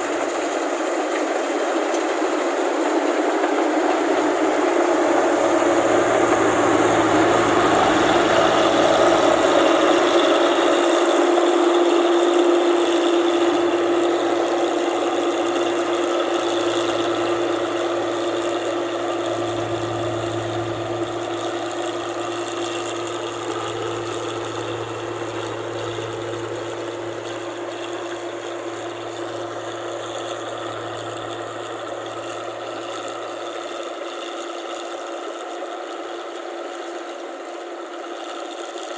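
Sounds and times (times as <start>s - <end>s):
combine harvester engine humming: 0.0s - 38.9s.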